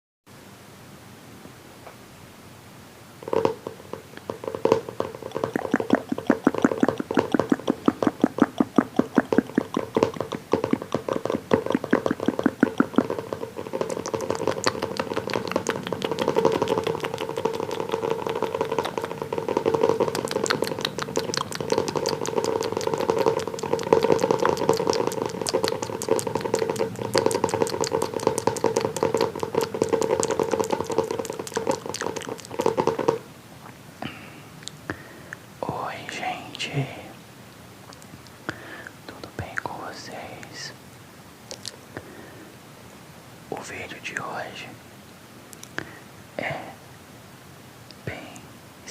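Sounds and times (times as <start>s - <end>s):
steady hum: 0.3s - 48.9s.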